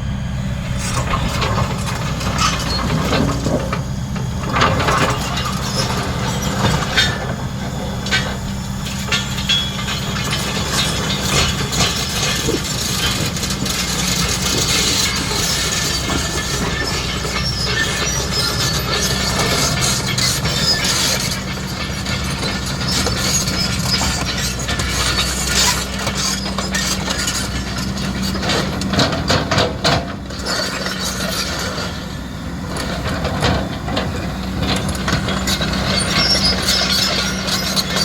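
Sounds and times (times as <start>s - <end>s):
excavator diesel engine running: 0.0s - 38.0s
knocks and clatter: 0.8s - 38.0s.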